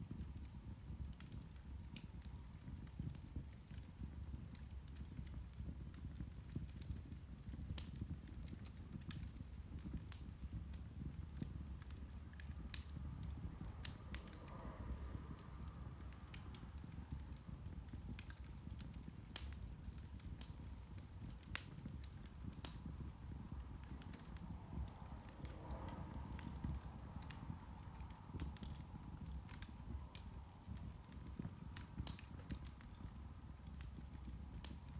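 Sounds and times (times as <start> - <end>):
low steady rumble: 0.0 - 34.9
peat fire crackling: 0.0 - 34.9.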